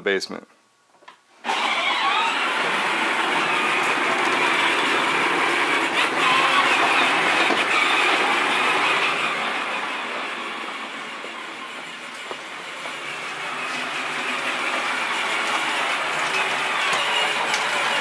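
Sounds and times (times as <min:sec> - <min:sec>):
plastic wheels rolling and rattling: 0:01.4 - 0:09.9, 0:11.2 - 0:18.0
toy tractor motors whirring: 0:01.4 - 0:18.0.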